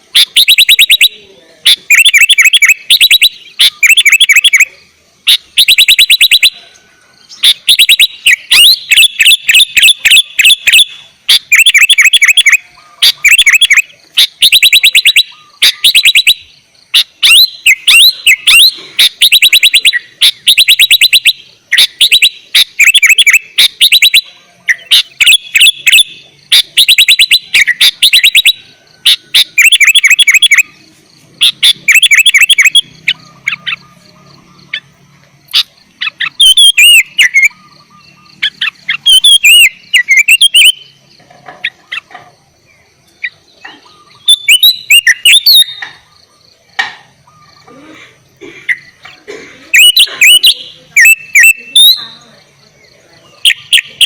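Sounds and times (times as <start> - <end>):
bird whistled notes: 0.0 - 42.2, 43.2 - 47.9, 48.7 - 54.0
bird chattering notes: 0.0 - 54.0.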